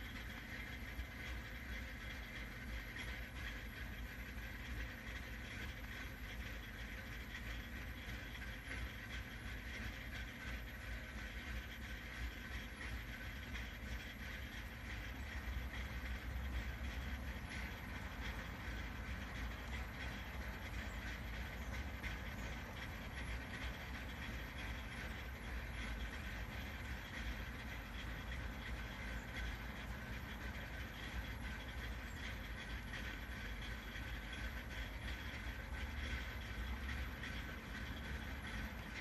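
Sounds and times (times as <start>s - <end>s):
car engine idling roughly: 0.0s - 39.0s.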